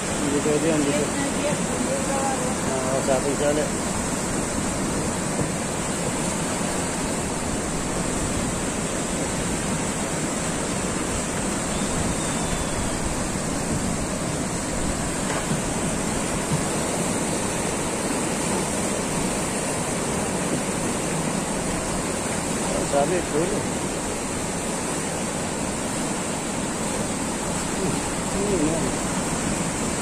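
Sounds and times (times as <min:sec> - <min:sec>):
whitewater rushing: 0:00.0 - 0:30.0.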